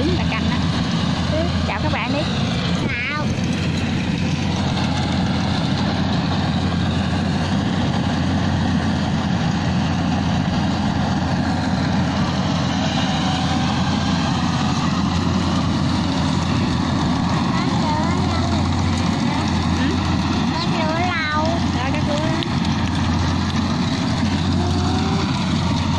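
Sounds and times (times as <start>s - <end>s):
combine harvester engine running: 0.0s - 25.9s.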